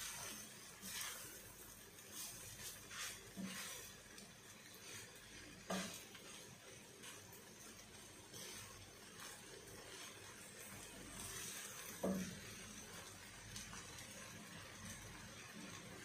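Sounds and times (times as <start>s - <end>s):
spatula scraping frying pan: 0.0s - 13.1s.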